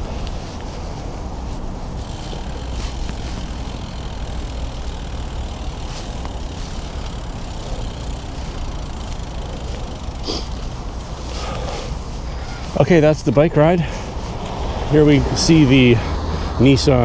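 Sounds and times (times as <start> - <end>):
street traffic rumble: 0.0 - 17.0
vehicle engines idling: 0.0 - 17.0.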